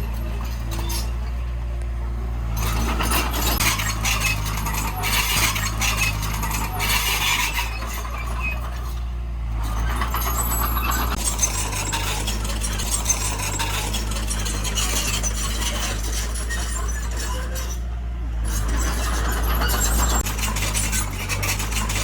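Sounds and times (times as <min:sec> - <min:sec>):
diesel engine droning: 0:00.0 - 0:22.0
rattling and scraping: 0:00.0 - 0:22.0.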